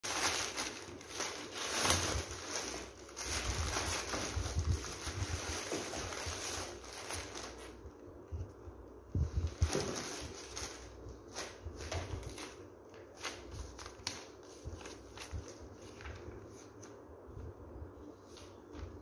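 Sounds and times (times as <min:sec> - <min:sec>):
plastic bag rustling and tearing: 0:00.0 - 0:07.8, 0:09.2 - 0:16.8.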